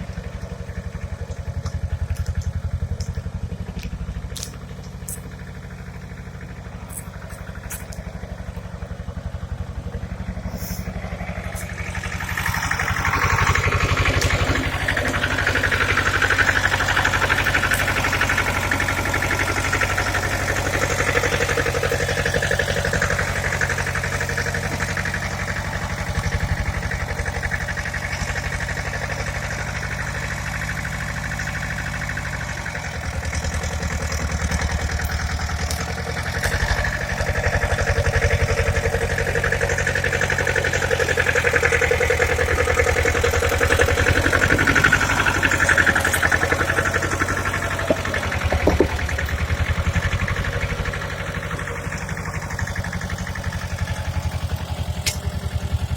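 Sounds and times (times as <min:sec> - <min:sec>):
tractor engine idling: 0:00.0 - 0:55.9.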